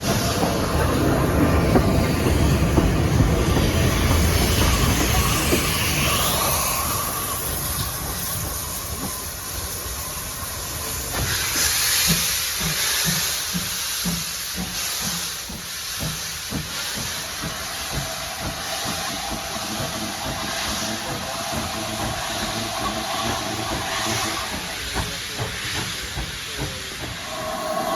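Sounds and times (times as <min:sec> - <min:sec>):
locomotive chuffing beat: 0:00.0 - 0:27.9
steam locomotive hiss of steam: 0:00.0 - 0:27.9.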